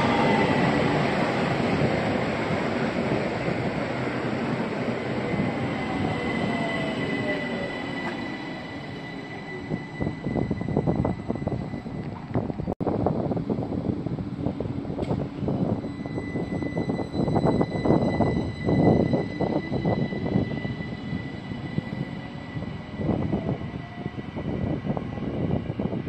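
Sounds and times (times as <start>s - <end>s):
train wheel and running noise: 0.0s - 26.0s.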